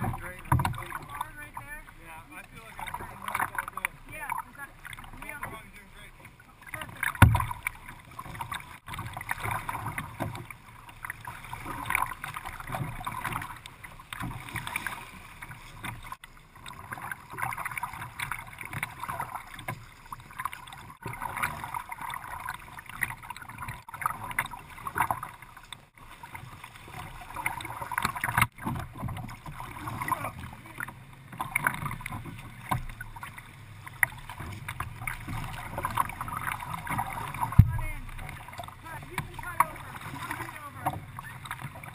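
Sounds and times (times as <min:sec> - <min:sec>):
paddle blades splashing: 0:00.0 - 0:41.9
water sloshing against hull: 0:00.0 - 0:41.9.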